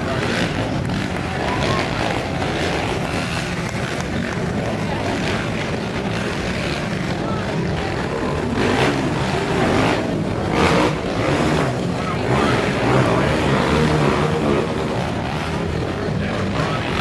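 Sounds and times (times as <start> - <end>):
quad engines revving: 0.0 - 17.0.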